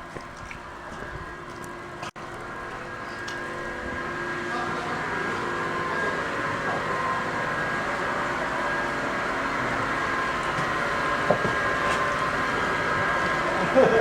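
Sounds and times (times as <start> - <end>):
mechanical running noise: 0.0 - 14.0.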